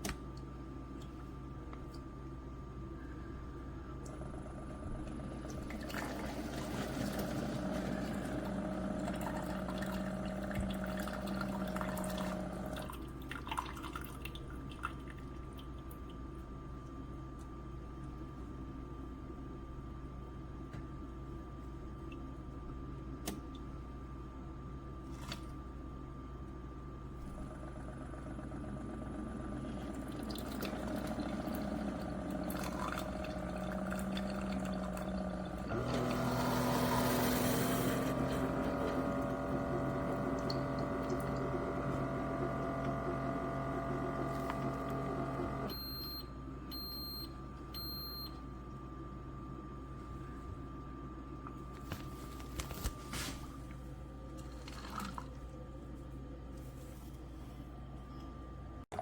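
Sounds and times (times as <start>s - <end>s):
coffee maker pump hum: 0.0s - 59.0s.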